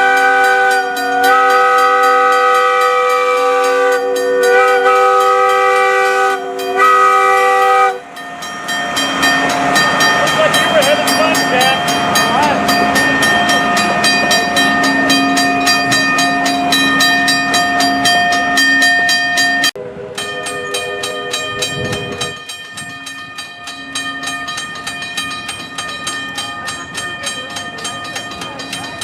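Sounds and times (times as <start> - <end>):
railway engine running: 0.0 - 29.0.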